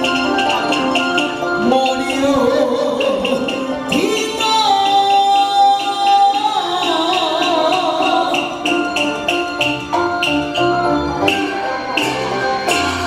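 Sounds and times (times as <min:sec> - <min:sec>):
melody of wavering held notes: 0:00.0 - 0:13.0.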